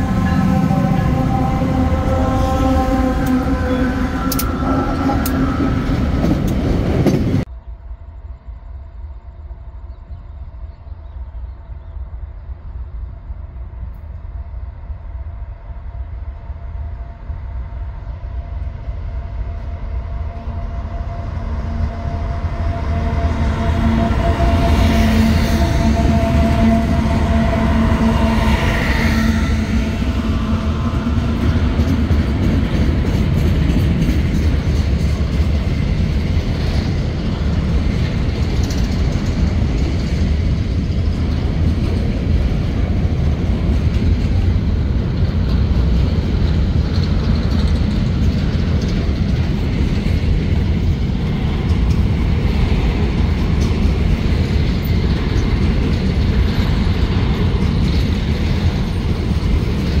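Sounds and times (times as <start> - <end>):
steel wheels rumbling on rails: 0.0 - 9.2, 9.8 - 60.0.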